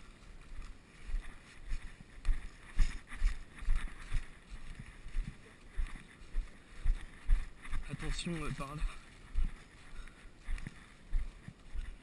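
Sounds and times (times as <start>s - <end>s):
ground cover rustling: 0.0s - 12.0s.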